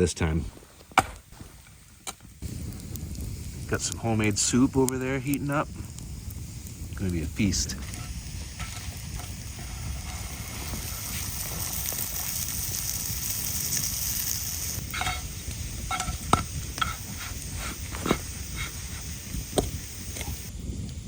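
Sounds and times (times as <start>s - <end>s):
sandwich sizzling in a frying pan: 2.2s - 20.6s.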